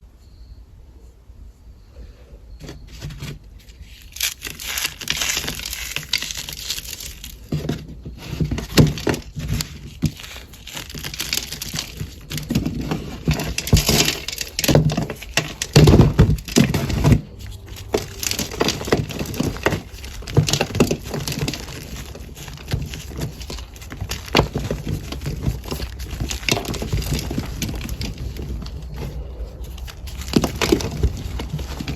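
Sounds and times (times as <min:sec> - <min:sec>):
cornstarch crunching: 0:03.7 - 0:07.7, 0:08.3 - 0:31.9.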